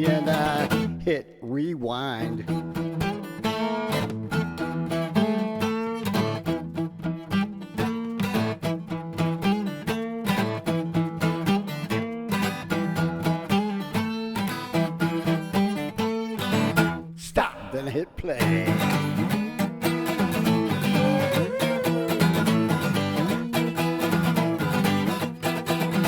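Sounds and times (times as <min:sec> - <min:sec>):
acoustic guitar strummed and picked: 0:00.0 - 0:26.0.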